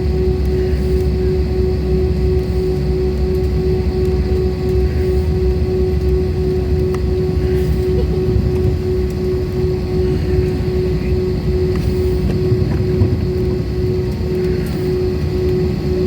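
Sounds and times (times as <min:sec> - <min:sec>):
jet airliner engines droning: 0:00.0 - 0:16.0.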